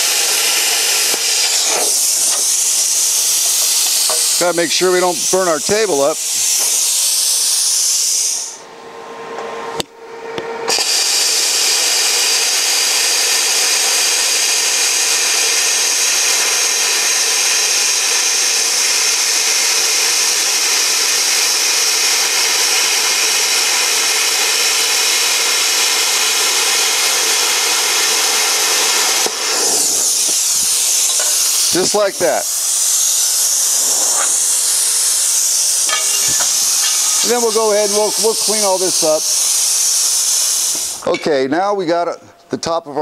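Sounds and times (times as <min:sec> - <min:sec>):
plasma cutter hissing: 0:00.0 - 0:08.6, 0:10.7 - 0:41.4.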